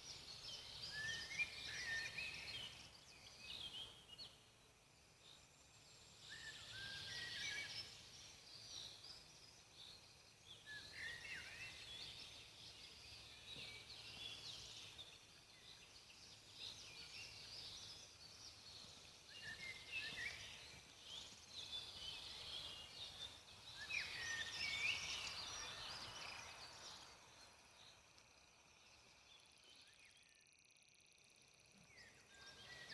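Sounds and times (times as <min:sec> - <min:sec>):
faint background noise: 0:00.0 - 0:32.9
songbirds chirping: 0:00.0 - 0:32.9.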